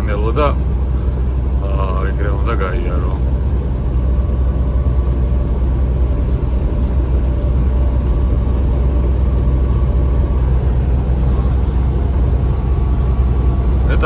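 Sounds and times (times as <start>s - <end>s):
road rumble: 0.0s - 14.0s
truck engine drone: 0.0s - 14.0s.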